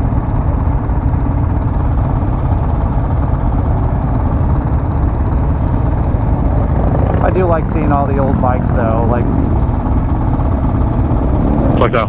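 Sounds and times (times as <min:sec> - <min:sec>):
motorcycle engine rumble: 0:00.0 - 0:12.0
wind noise: 0:00.0 - 0:12.0.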